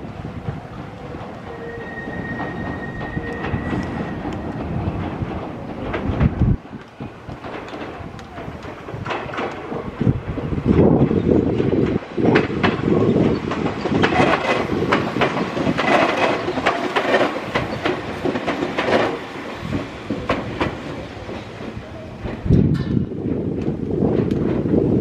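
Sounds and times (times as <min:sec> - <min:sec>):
train wheels clacking over rail joints: 0:00.0 - 0:25.0
wind buffeting microphone: 0:00.0 - 0:25.0.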